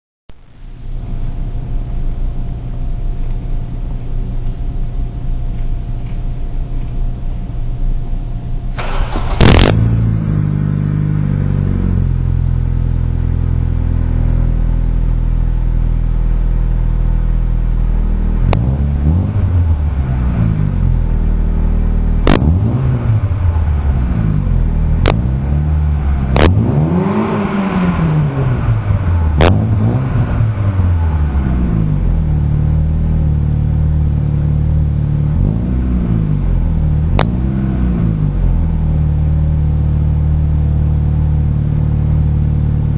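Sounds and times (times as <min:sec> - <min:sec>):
car engine idling and revving: 0:00.3 - 0:42.9.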